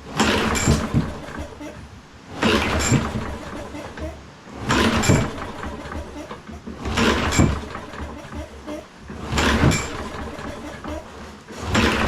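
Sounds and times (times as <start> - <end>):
lawnmower engine cranking: 0.0 - 1.6, 2.3 - 12.0
recoil starter pulled: 0.0 - 1.6, 2.3 - 12.0.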